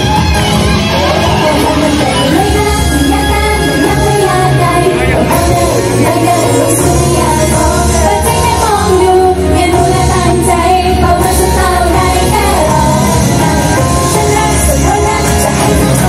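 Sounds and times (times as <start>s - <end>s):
pop music with women singing: 0.0s - 16.0s.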